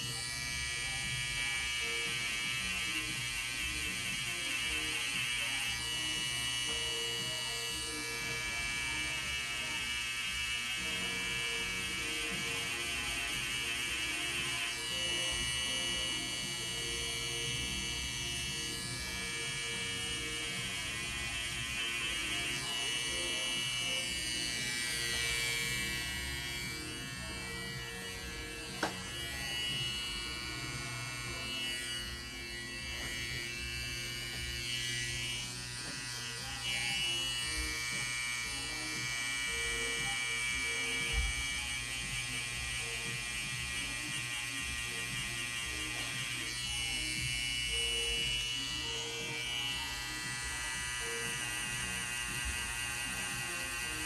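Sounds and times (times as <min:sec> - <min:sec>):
tattoo machine buzzing: 0:00.0 - 0:54.0.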